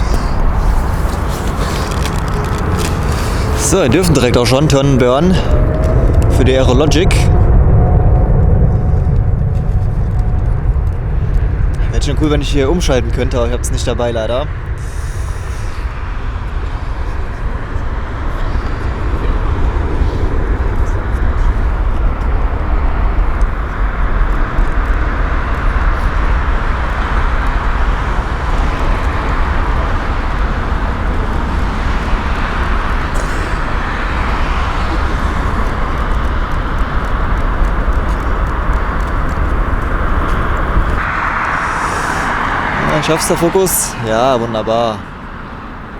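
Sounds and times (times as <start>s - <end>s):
jet engines at take-off thrust: 0.0s - 45.9s.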